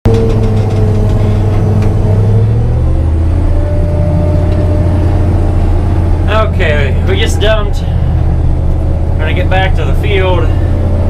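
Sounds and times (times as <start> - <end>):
farm vehicle engine running: 0.0 - 11.0.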